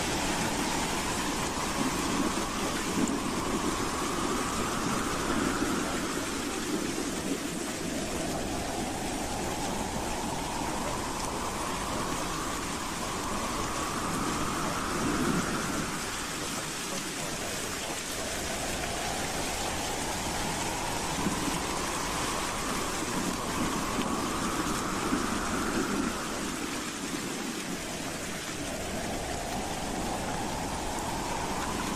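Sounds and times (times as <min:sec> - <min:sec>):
howling wind: 0:00.0 - 0:31.9.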